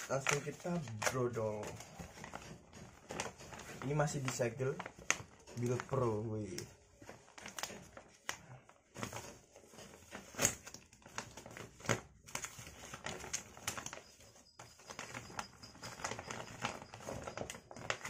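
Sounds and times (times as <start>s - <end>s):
packaging crinkling: 0.0s - 18.0s.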